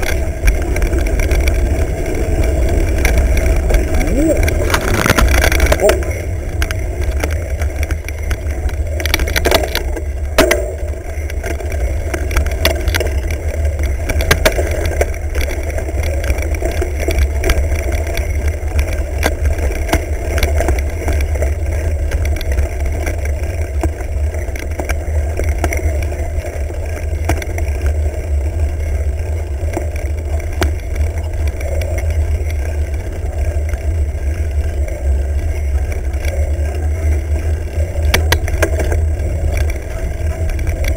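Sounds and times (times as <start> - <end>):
bike rattles and knocks: 0.0 - 40.9
wind rumble on microphone: 0.0 - 40.9.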